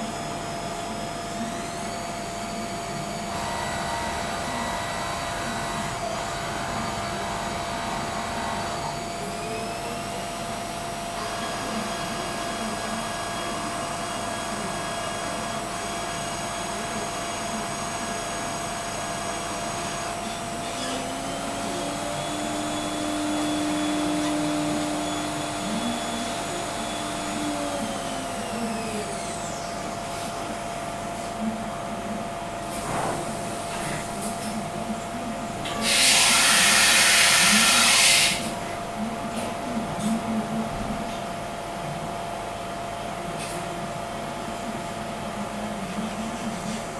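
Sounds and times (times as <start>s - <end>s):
machine spindle whine: 0.0s - 43.1s.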